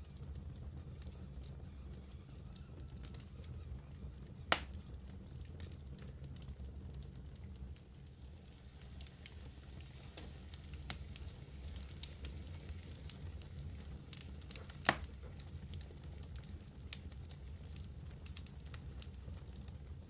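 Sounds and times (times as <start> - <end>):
fire crackles and pops: 0.0 - 20.0
wood fire roaring: 0.0 - 20.0.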